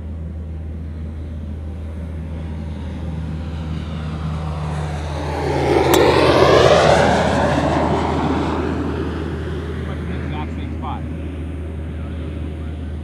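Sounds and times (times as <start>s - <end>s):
airplane flying overhead: 0.0s - 13.0s.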